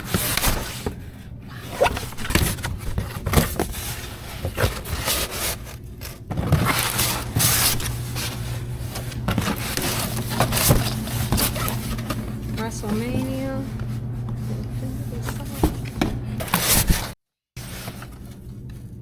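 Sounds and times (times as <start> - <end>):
cardboard boxes rustling and scraping: 0.0 - 18.9
steady low hum: 0.3 - 17.0.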